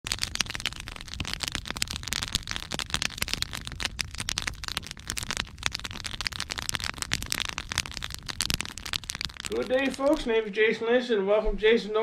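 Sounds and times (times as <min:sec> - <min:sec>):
sharp snaps and pops: 0:00.0 - 0:10.4
campfire crackling: 0:00.0 - 0:10.5.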